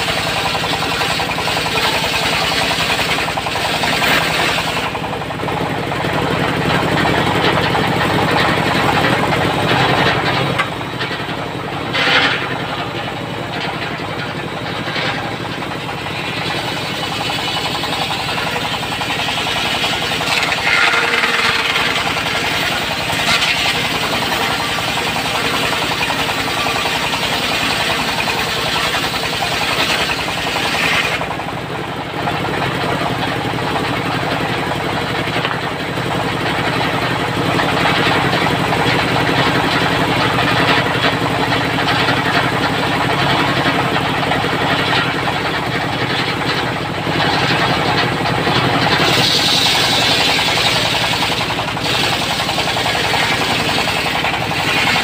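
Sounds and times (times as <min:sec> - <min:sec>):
circular saw cutting wood: 0:00.0 - 0:32.0, 0:37.6 - 0:55.0
diesel engine running: 0:00.0 - 0:55.0.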